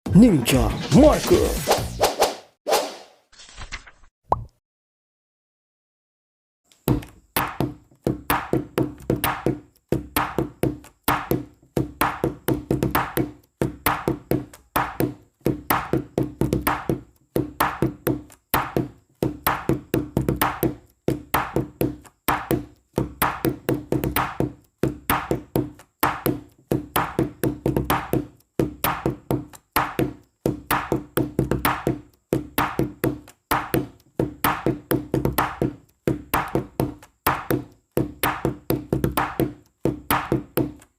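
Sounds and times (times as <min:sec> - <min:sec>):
music with wood-block beat: 0:06.8 - 0:40.9.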